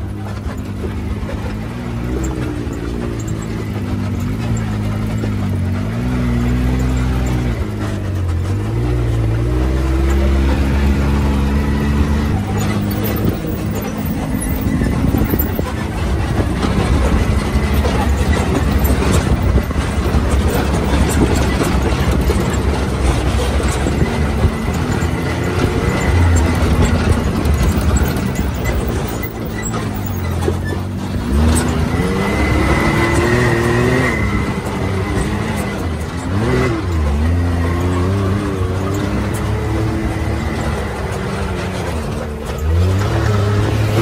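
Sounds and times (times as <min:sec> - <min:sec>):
off-road vehicle engine running: 0:00.0 - 0:44.0
rattling and knocking from ground: 0:00.0 - 0:44.0.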